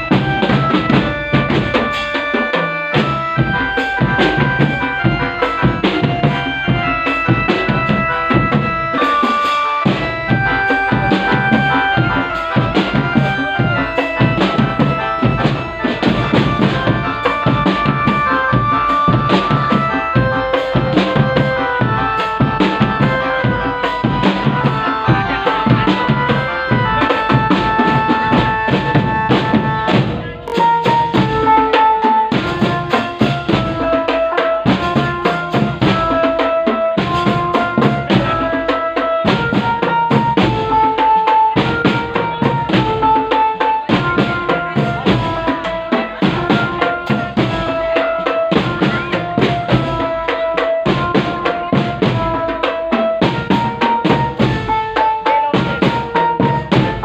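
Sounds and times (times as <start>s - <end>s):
drums and percussion beating: 0.0s - 57.0s
melody of held notes: 0.0s - 57.0s.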